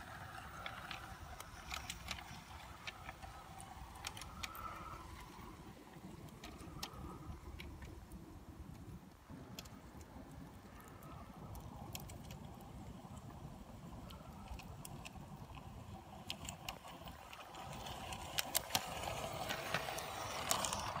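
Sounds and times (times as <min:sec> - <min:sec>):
model train rumbling along track: 0:00.0 - 0:08.3, 0:10.5 - 0:21.0.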